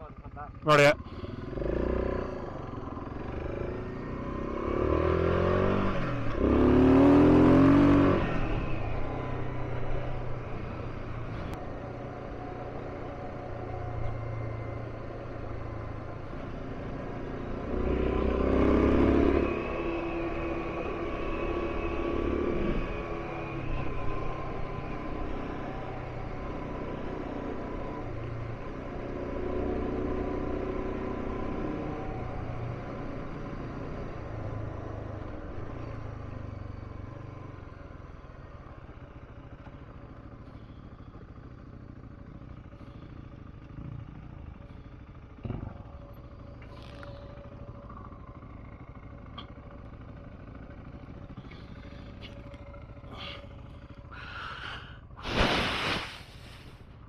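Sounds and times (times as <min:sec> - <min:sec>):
motorcycle engine running: 0:00.0 - 0:55.4.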